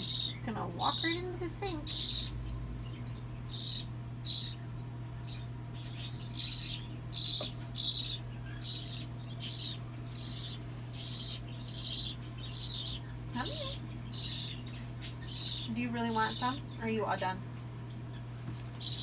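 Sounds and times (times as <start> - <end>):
baby bird chirping: 0.0 - 19.0.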